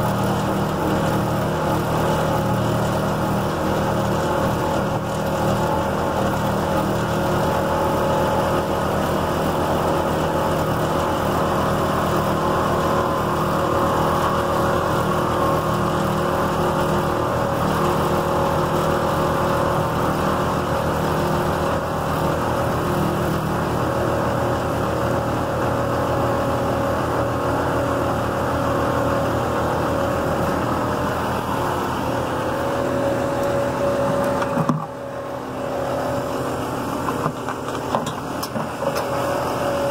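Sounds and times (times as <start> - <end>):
grinder machine drone: 0.0 - 39.9.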